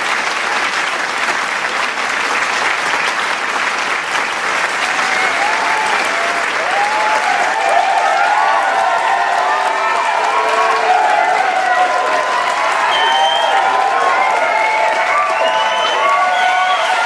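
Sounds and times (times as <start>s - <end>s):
crowd applauding: 0.0s - 17.0s
crowd cheering: 0.0s - 17.0s.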